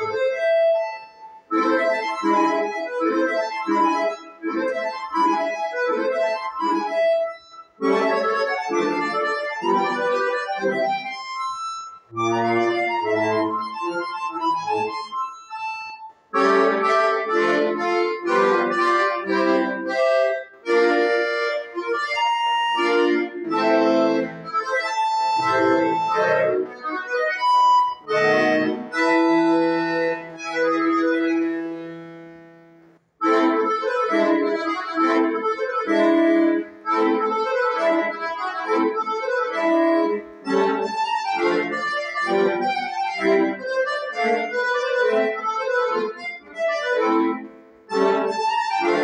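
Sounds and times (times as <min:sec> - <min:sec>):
button accordion playing: 0:00.0 - 0:49.0.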